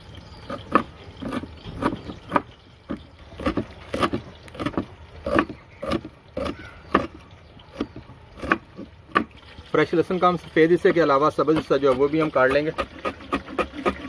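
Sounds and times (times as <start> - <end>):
knife cutting garlic: 0.4 - 9.3, 11.4 - 14.0.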